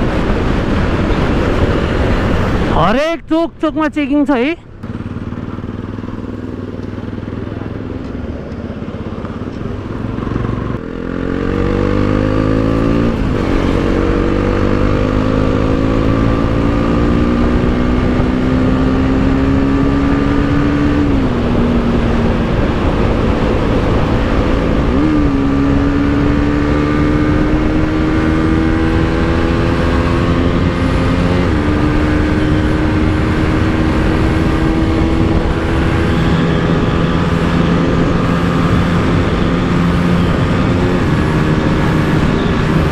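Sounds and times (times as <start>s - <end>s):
motorcycle engine accelerating: 0.0s - 2.8s, 4.7s - 42.9s.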